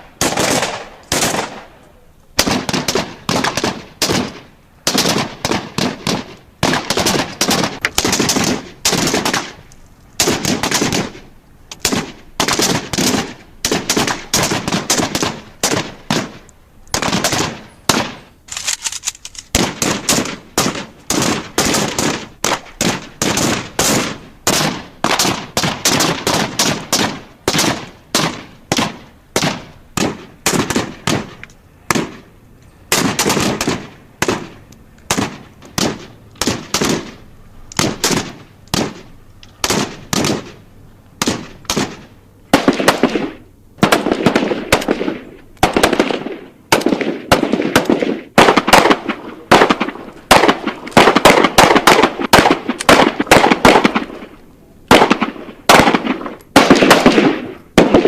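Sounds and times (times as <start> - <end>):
gunshots: 0.0 - 1.8, 2.4 - 9.6, 10.2 - 18.8, 19.5 - 32.3, 32.9 - 40.6, 41.2 - 58.0.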